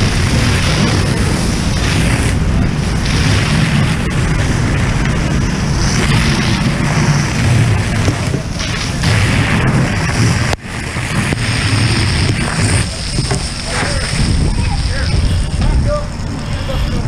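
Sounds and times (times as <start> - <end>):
fire hose water rushing: 0.0 - 17.0
high hiss: 0.0 - 17.0.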